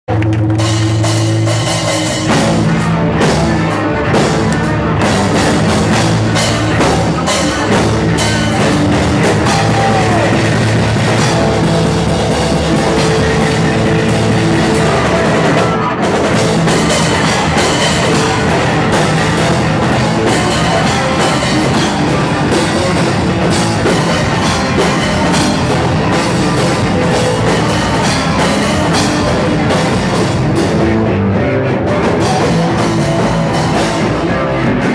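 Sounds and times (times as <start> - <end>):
punk band playing live: 0.1 - 34.9.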